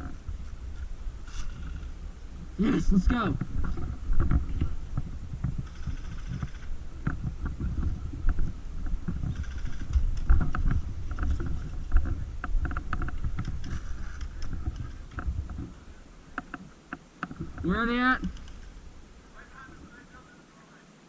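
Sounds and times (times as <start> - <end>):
camera rumble and rustle: 0.0 - 21.0.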